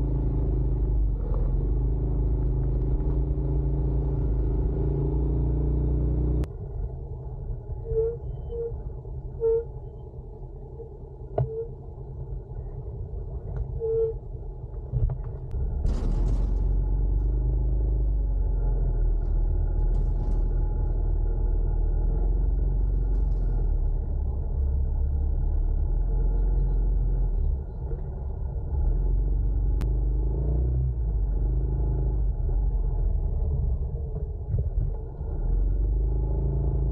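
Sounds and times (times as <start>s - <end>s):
motorcycle engine rumble: 0.0s - 29.8s.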